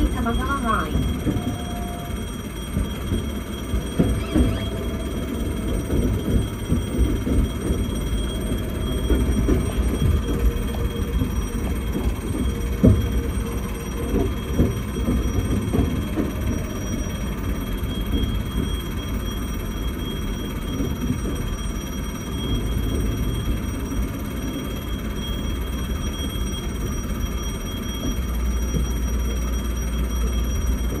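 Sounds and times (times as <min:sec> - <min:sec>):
steady high-pitched tone: 0:00.0 - 0:31.0
train rumbling: 0:00.0 - 0:31.0.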